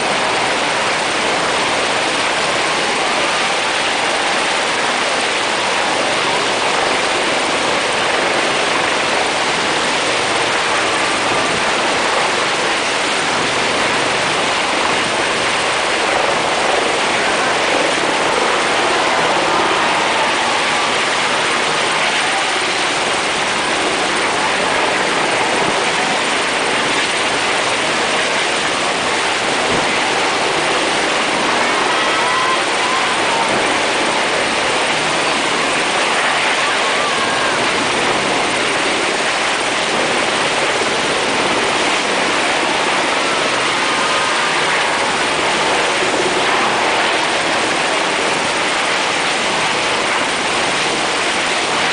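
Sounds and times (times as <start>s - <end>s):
helicopters flying over: 0.0s - 51.9s.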